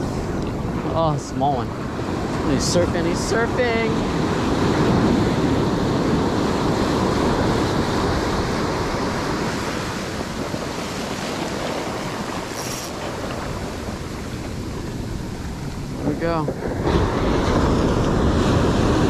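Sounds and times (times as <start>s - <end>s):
ocean waves breaking: 0.0s - 19.0s
wind on microphone: 0.0s - 19.0s.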